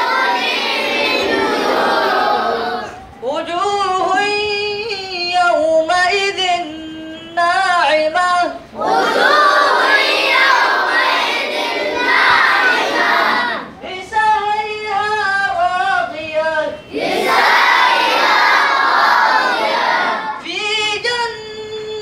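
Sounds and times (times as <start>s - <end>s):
boys chanting in unison: 0.0s - 5.6s, 7.6s - 20.7s
boy chanting alone: 0.0s - 22.0s.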